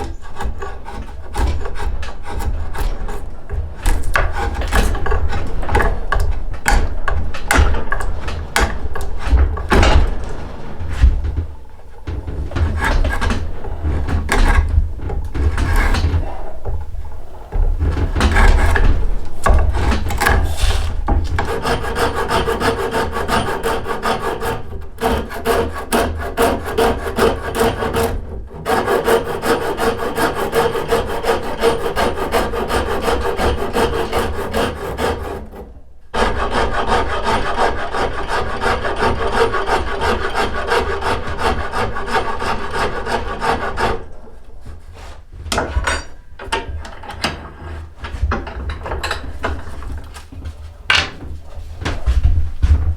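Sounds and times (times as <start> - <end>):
hand rasp scraping wood: 0.0 - 45.8.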